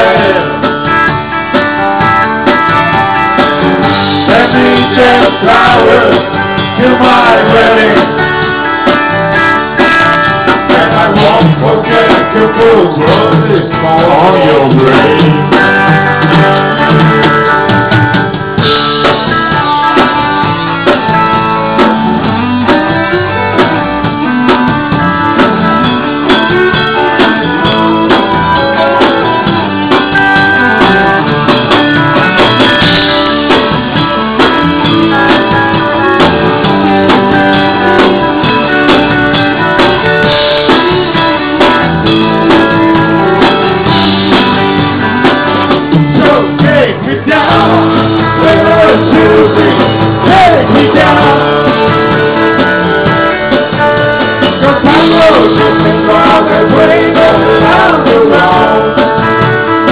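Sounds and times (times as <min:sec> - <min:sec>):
electric guitar: 0:00.0 - 0:59.9
live country-rock band: 0:00.0 - 0:59.9.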